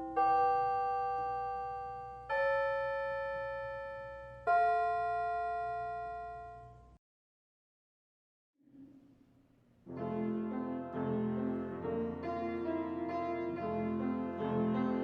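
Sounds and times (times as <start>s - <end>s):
piano playing slow chords: 0.0s - 7.0s, 9.9s - 15.0s.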